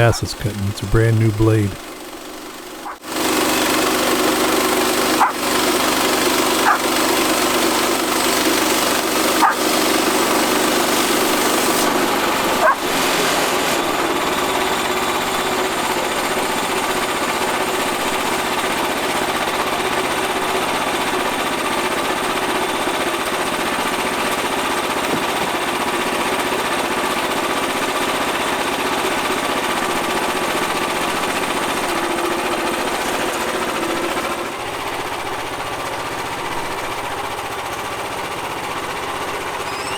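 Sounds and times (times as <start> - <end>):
sawmill engine running under load: 0.0 - 39.9
band saw cutting log: 2.7 - 34.6, 39.6 - 39.9.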